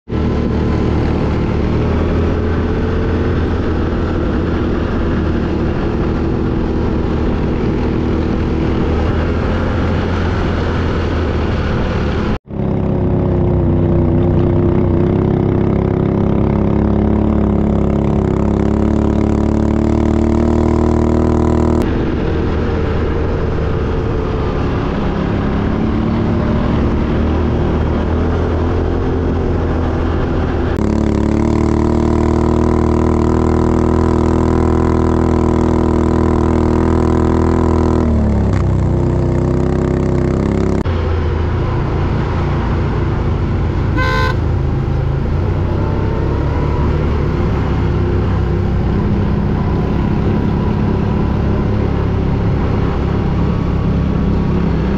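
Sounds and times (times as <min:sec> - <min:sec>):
quad bike engines running: 0:00.1 - 0:54.9.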